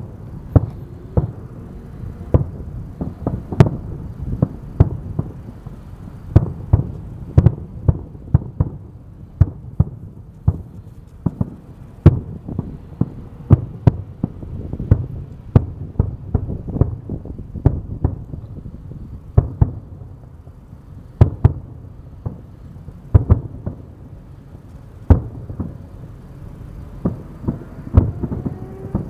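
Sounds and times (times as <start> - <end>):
fireworks bangs: 0.0 - 20.4, 21.1 - 29.0
low rumble: 0.0 - 29.0.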